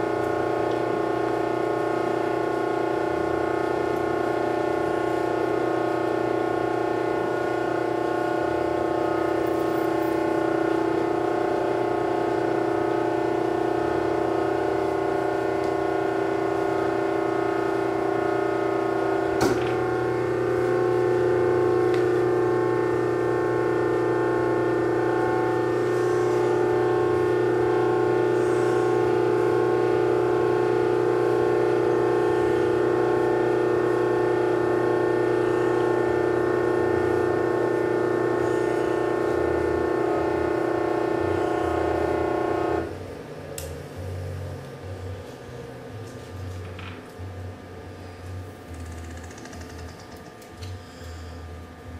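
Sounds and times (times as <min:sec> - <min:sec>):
electric motor hum: 0:00.0 - 0:51.9.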